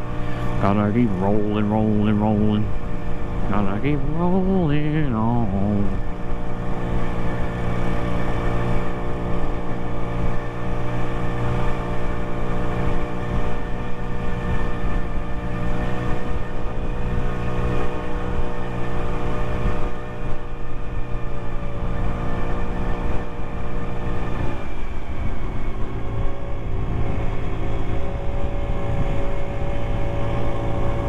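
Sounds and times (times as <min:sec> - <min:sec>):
scooter engine cruising: 0:00.0 - 0:31.0
wind rumble on microphone: 0:00.0 - 0:31.0.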